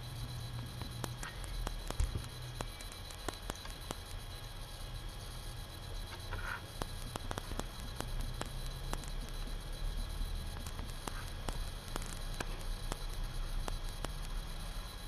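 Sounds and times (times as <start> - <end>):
low hum and hiss: 0.0 - 15.0
static clicks: 0.0 - 15.0.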